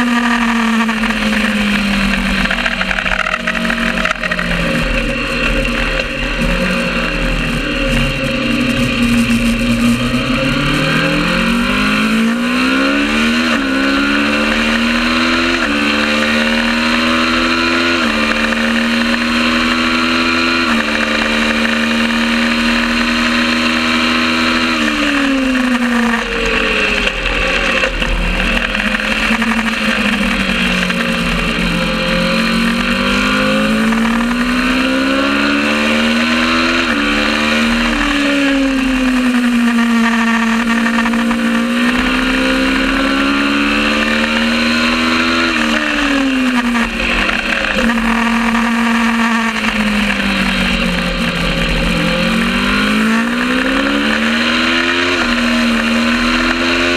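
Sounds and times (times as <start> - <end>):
motorcycle engine accelerating and shifting: 0.0 - 56.9.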